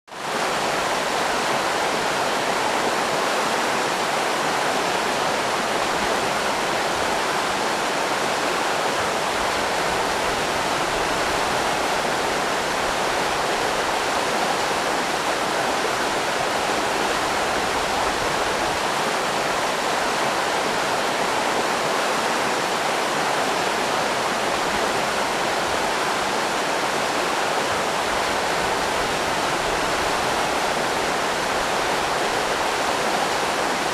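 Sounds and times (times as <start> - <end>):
river rapids rushing: 0.1 - 33.9.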